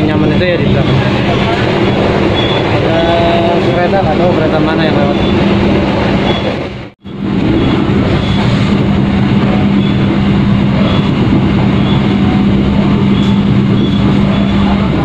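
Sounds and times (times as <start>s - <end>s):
even hum: 0.0s - 15.0s
train wheels on rails: 0.0s - 15.0s.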